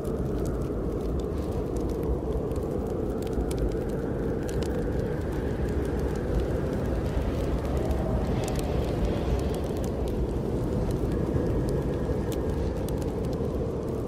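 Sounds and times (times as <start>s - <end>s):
wind blowing: 0.0s - 14.0s
wood fire crackling: 0.0s - 14.0s.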